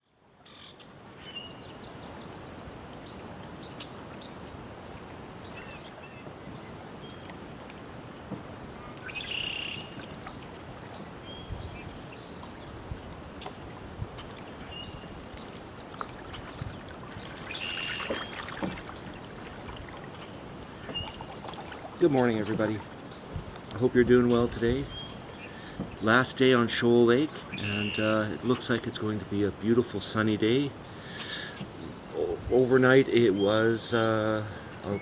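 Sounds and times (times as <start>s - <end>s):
outdoor background hiss: 0.0s - 35.0s
songbirds chirping and trilling: 0.0s - 35.0s.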